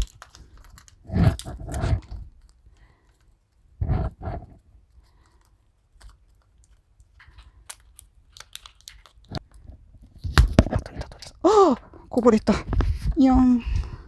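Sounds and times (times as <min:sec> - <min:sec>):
plastic syringe and bottle handling: 0:00.0 - 0:11.4.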